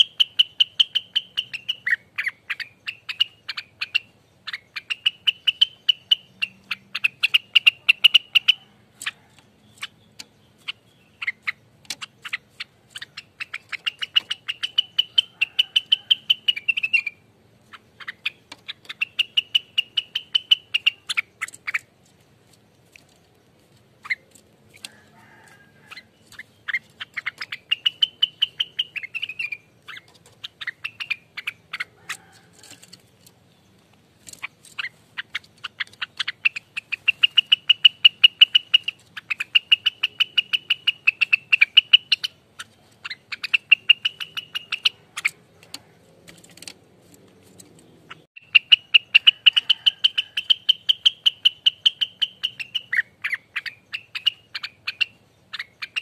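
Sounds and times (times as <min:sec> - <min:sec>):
bird rapid ticking notes: 0:00.0 - 0:56.0.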